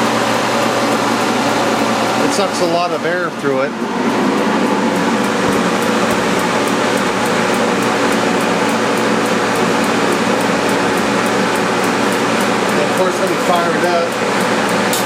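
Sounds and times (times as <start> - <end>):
blower fan rushing air: 0.0 - 15.0.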